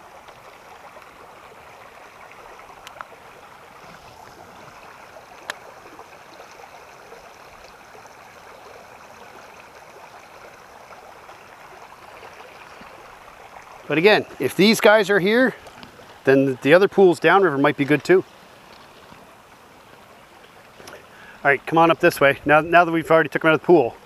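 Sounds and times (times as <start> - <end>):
brook running over stones: 0.0 - 24.0.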